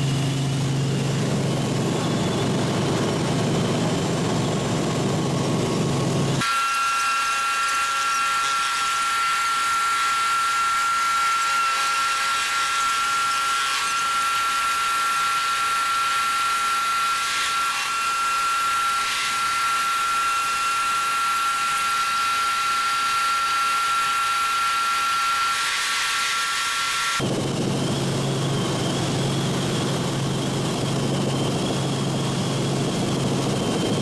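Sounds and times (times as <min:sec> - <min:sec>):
high-pitched helicopter whine: 0:00.0 - 0:34.0.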